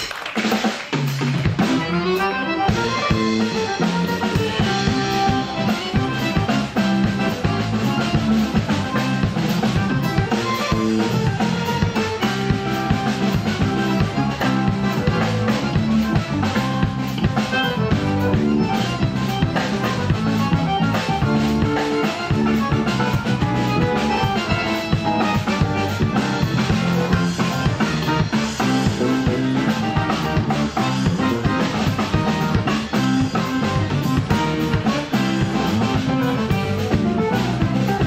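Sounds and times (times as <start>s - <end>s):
drum kit beat: 0.0s - 38.0s
electric guitar: 0.0s - 38.0s
electric bass: 0.9s - 38.0s
accordion: 1.0s - 38.0s.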